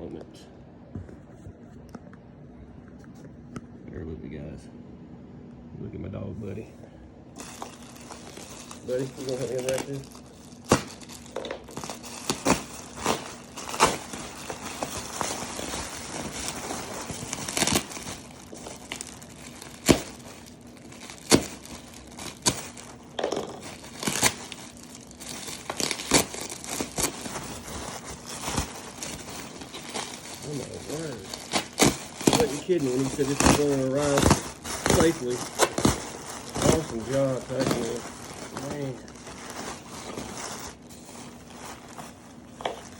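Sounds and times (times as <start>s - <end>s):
bubble wrap crinkling: 7.4s - 42.9s
sharp plastic crackles: 7.4s - 42.9s.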